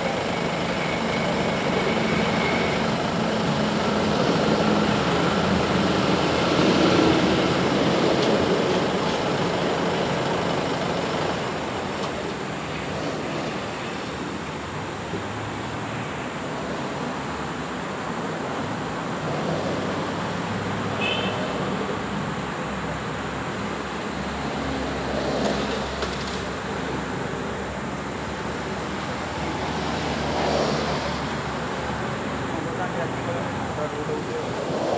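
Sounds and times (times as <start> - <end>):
vehicle engine or traffic noise: 0.0 - 34.9.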